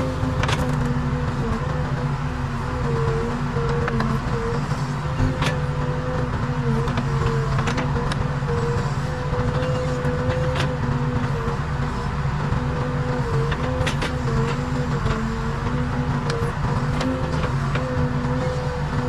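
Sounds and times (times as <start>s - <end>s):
diesel engine running: 0.0s - 19.0s
steady whine: 0.0s - 19.0s.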